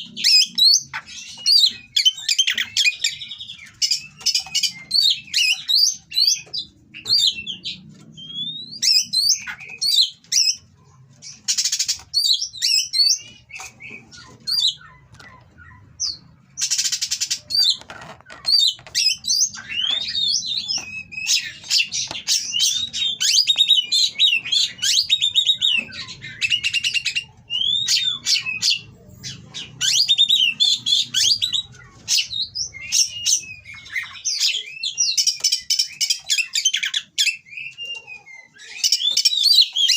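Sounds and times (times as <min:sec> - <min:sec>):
songbird whistling and chirping: 0:00.0 - 0:10.7, 0:11.3 - 0:17.8, 0:18.4 - 0:39.9.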